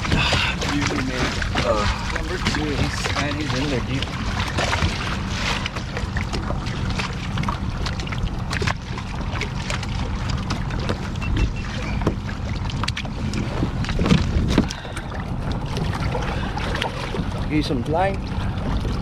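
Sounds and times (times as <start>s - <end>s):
small clicks and splashes: 0.0s - 18.1s
steady low hum: 0.0s - 19.0s
water washing around a kayak: 0.0s - 19.0s
wind on microphone: 0.0s - 19.0s.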